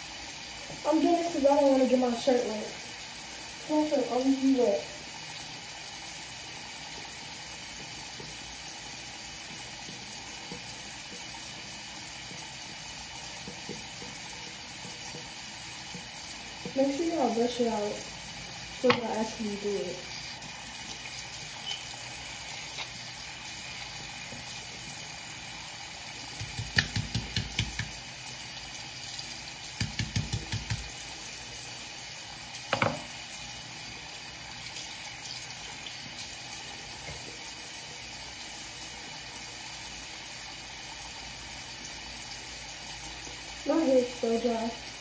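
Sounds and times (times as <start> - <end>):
water running from a tap: 0.0 - 45.0.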